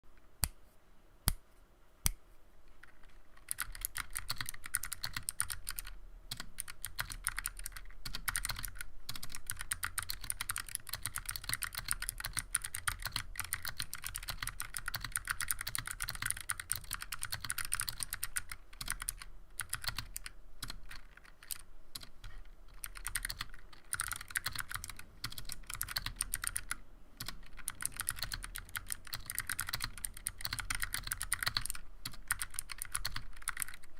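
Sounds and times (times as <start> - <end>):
clicky keyboard typing: 2.8 - 33.9.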